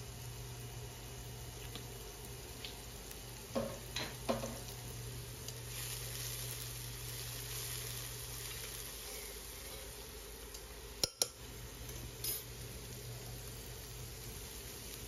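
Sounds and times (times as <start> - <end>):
onion and garlic sizzling in oil: 0.0 - 15.0.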